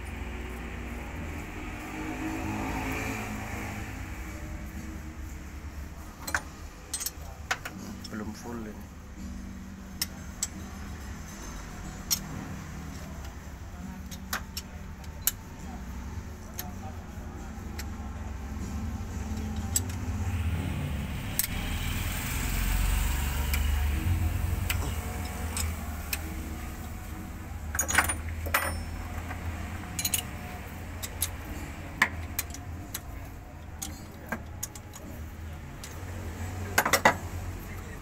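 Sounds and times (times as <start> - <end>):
low steady hum: 3.4 - 38.0.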